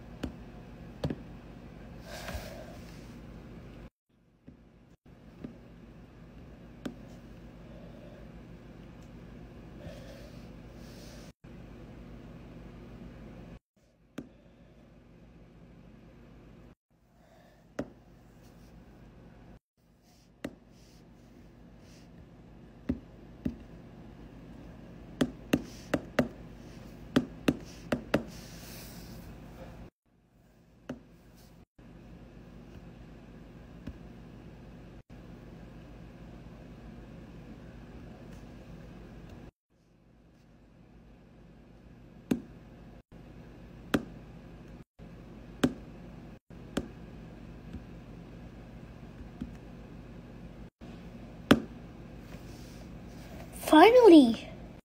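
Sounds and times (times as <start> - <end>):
low room hum: 0.0 - 54.8.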